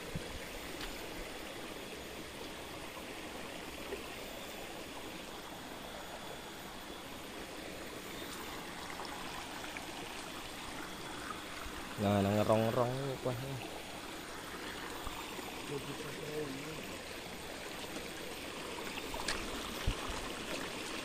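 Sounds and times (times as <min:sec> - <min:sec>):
stream flowing over rocks: 0:00.0 - 0:21.0.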